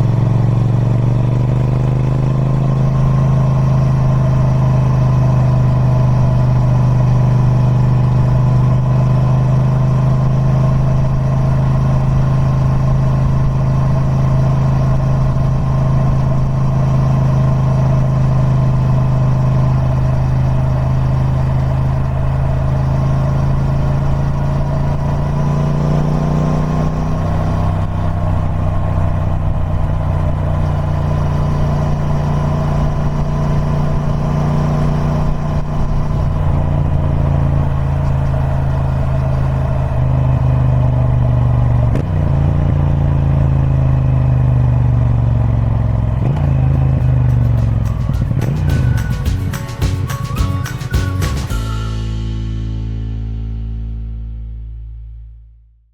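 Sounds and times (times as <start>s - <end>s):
motorcycle engine running: 0.0s - 54.8s.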